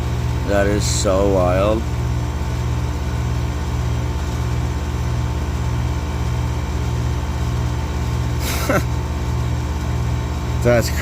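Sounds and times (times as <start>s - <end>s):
air conditioner compressor hum: 0.0s - 11.0s.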